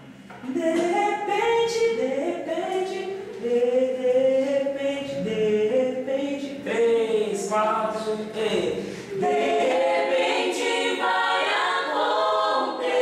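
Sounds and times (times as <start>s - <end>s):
vocal group singing in harmony: 0.4s - 13.0s.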